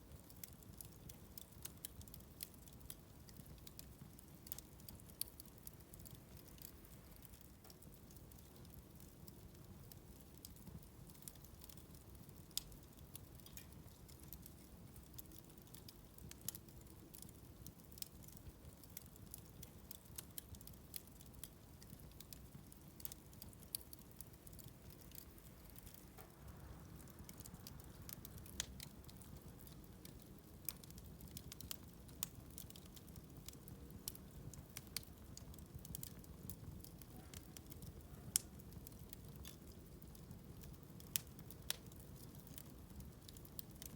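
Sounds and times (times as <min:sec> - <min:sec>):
bonfire crackling: 0:00.0 - 0:43.9.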